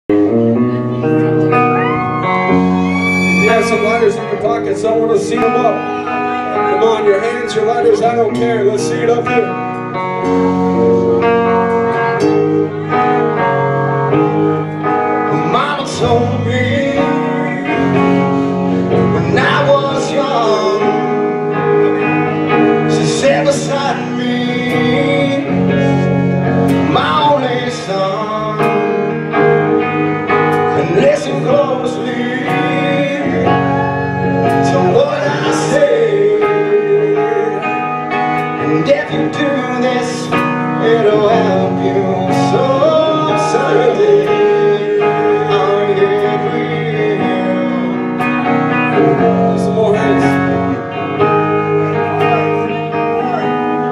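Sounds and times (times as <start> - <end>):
electric guitars: 0.0 - 53.9
man singing: 2.4 - 9.8, 15.2 - 30.0, 30.6 - 53.9.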